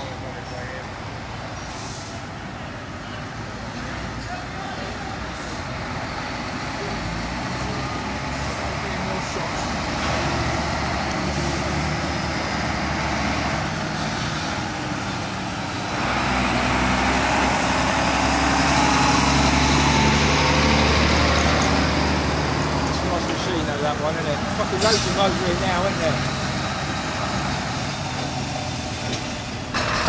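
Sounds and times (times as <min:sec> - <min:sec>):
heavy lorries idling: 0:00.0 - 0:30.0
lorry diesel engine passing: 0:00.0 - 0:30.0.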